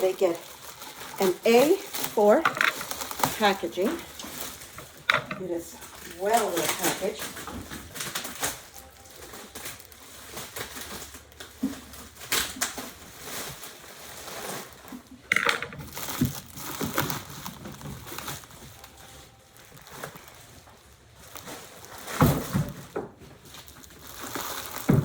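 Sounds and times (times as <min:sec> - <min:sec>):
packaging crinkling and crunching: 0:00.0 - 0:25.0.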